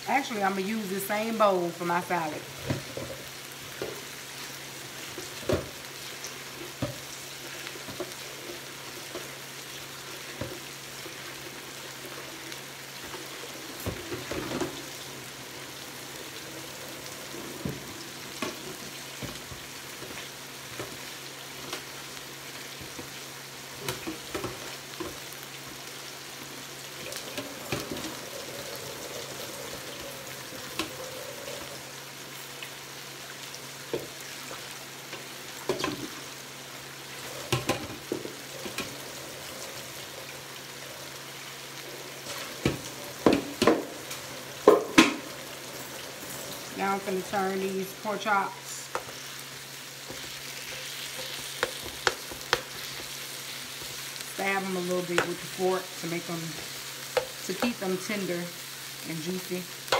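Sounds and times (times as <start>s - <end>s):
pork chops sizzling on grill: 0.0s - 59.9s.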